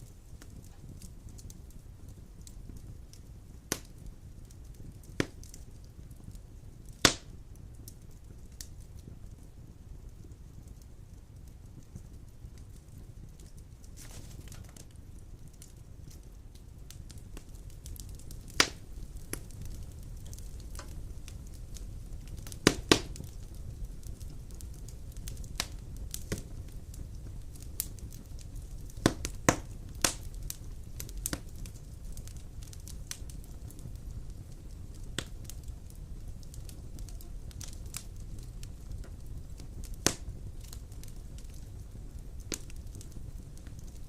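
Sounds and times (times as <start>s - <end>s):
fire low rumble: 0.0s - 44.0s
wood fire crackling and popping: 0.0s - 44.0s.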